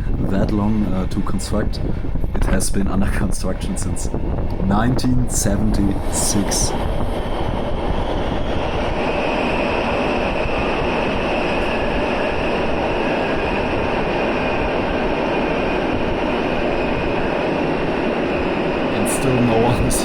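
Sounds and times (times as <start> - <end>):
faint high whine: 0.0 - 15.5, 18.5 - 20.0
train rumble and hiss: 0.0 - 20.0.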